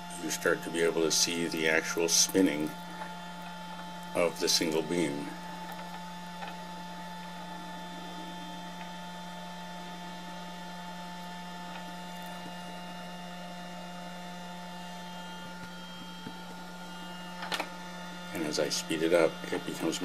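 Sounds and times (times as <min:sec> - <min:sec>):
small motor humming: 0:00.0 - 0:20.0.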